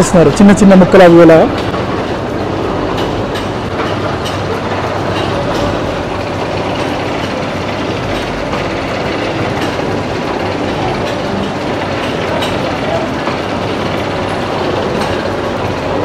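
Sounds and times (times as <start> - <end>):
machinery running: 0.0 - 16.0.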